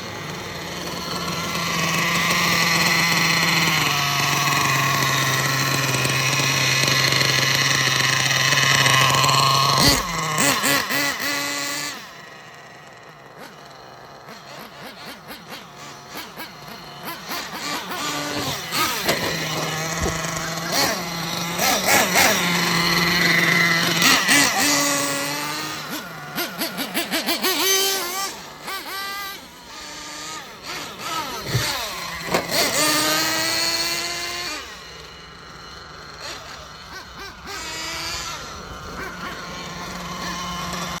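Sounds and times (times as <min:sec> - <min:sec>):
rc truck engine revving: 0:00.0 - 0:41.0.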